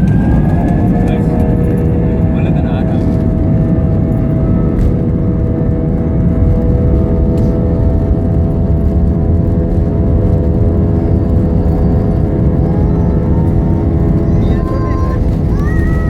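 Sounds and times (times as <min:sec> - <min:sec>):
jet engine whining tones: 0:00.0 - 0:16.0
jet engines rumbling: 0:00.0 - 0:16.0.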